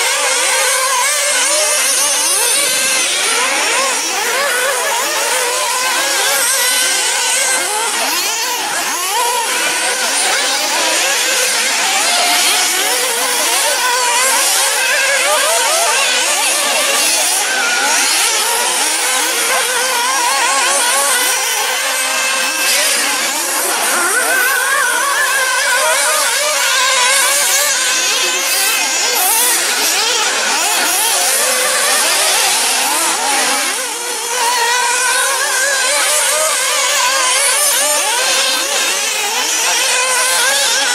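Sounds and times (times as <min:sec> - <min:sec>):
model car engines whining: 0:00.0 - 0:40.9.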